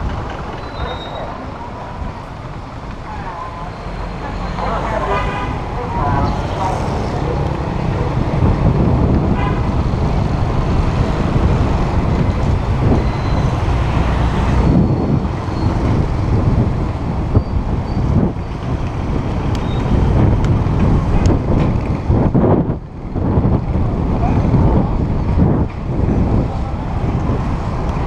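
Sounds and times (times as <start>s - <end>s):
motorbike traffic: 0.0s - 28.0s
wind rumbling on microphone: 0.0s - 28.0s.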